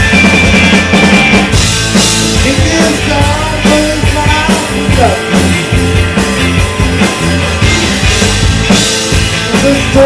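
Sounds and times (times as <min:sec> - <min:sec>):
bending electric guitar lines: 0:00.0 - 0:10.0
drum kit steady beat: 0:00.0 - 0:10.0
live rock band playing: 0:00.0 - 0:10.0.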